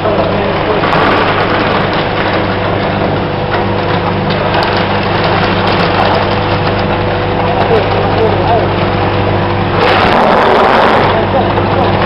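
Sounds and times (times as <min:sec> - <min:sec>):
ice machine humming: 0:00.0 - 0:12.0.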